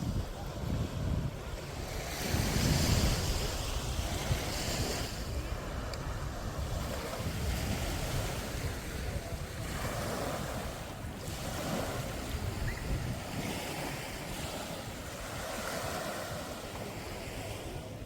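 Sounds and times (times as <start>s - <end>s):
surf washing on beach: 0.0s - 18.0s
wind buffeting microphone: 0.0s - 18.0s.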